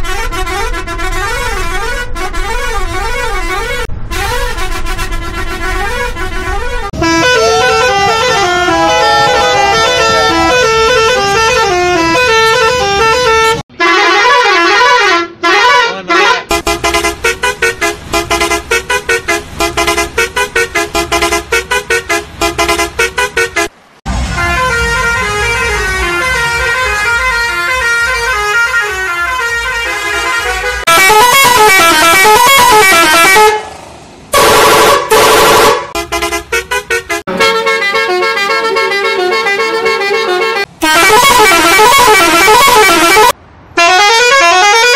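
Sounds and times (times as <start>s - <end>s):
musical air horn tunes: 0.0s - 33.7s, 34.4s - 44.9s.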